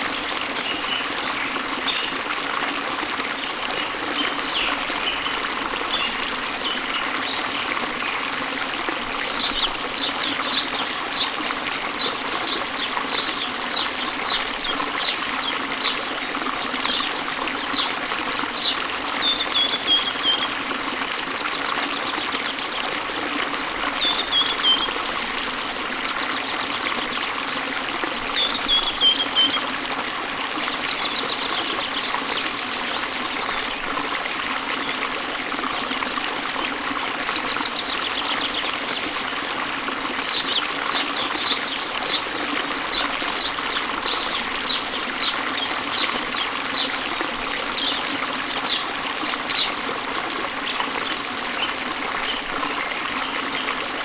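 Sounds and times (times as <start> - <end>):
waterfall running: 0.0 - 54.0.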